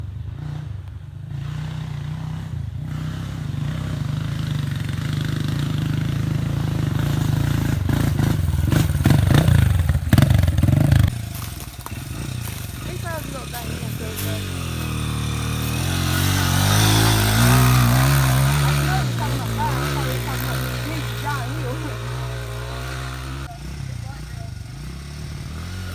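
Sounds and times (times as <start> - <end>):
pit bike engine running: 0.0 - 25.9.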